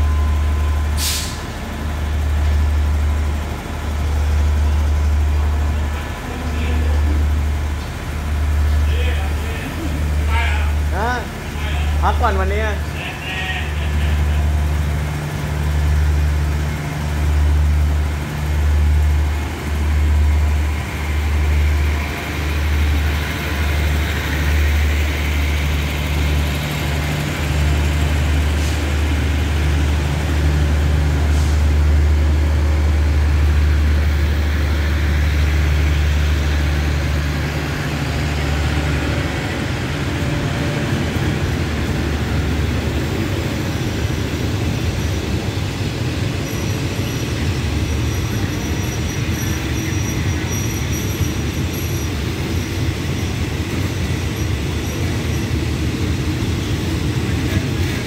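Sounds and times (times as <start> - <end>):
train diesel engine humming: 0.0 - 58.0.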